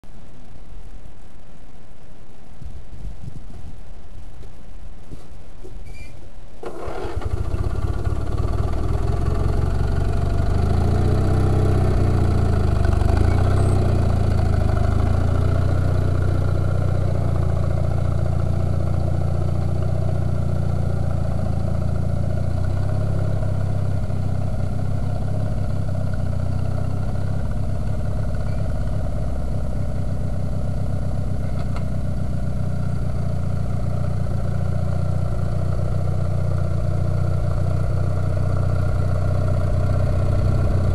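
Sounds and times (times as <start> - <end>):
garden tractor engine running: 6.6 - 40.9.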